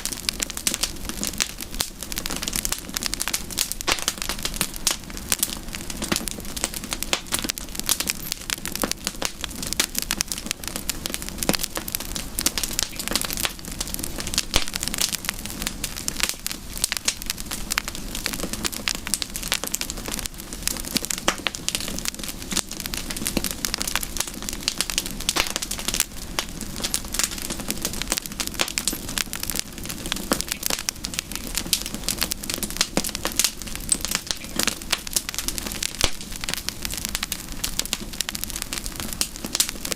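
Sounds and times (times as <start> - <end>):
campfire crackling and popping: 0.0 - 39.9
fire hiss: 0.0 - 39.9.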